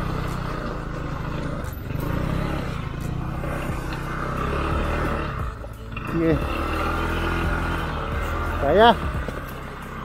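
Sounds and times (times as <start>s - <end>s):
scooter engine droning: 0.0s - 10.0s.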